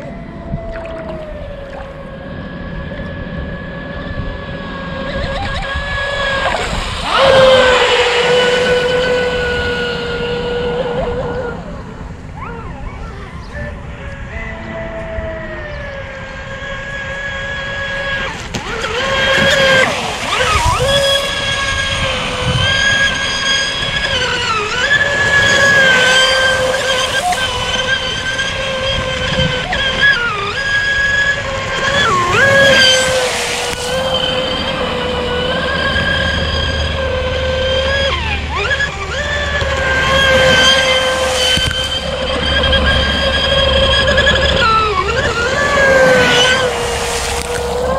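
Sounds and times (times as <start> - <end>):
rc boat motor whining: 0.0 - 47.9.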